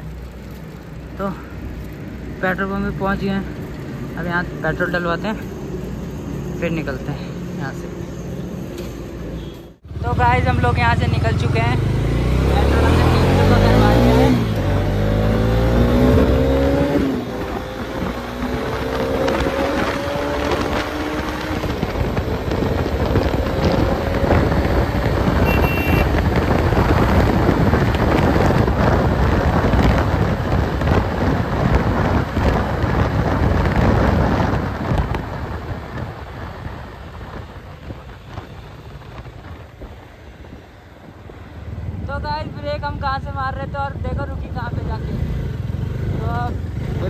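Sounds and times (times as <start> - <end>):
motorcycle engine: 0.0 - 47.0
wind rushing over microphone: 0.0 - 47.0.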